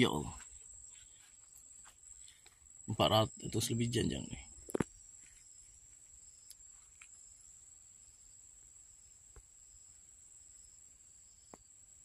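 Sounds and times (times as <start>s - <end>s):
high-pitched insect trilling: 0.0s - 12.0s
pulsing insect chirp: 0.0s - 12.0s.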